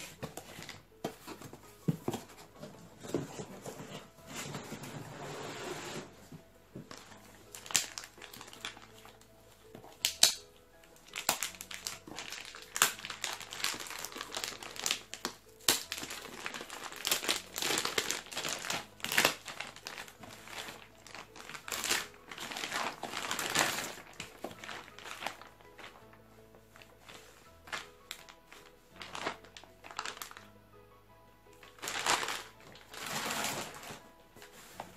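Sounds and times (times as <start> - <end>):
plastic wrapping crinkling: 0.0 - 30.5, 31.6 - 34.9.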